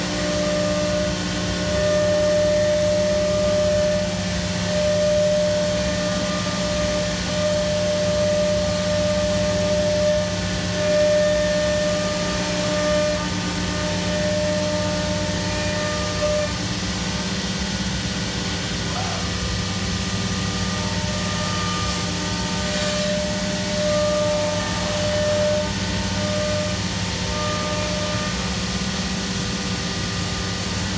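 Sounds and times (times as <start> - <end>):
machinery hum and hiss: 0.0 - 30.9.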